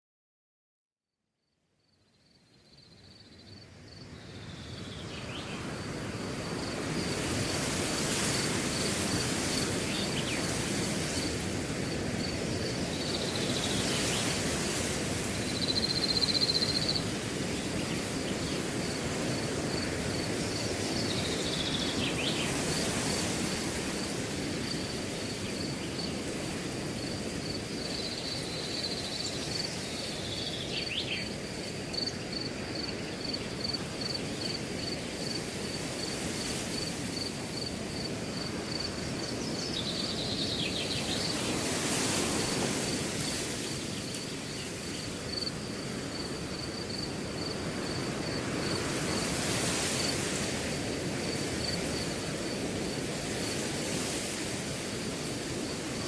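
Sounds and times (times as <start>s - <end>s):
cricket chirping: 1.4s - 56.0s
wind through grass: 1.8s - 56.0s.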